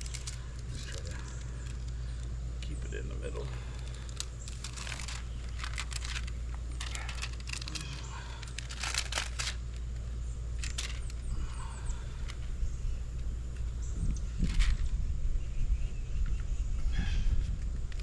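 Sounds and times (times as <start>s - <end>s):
scraping and crinkling handling noise: 0.0s - 14.9s
steady low hum: 0.0s - 18.0s.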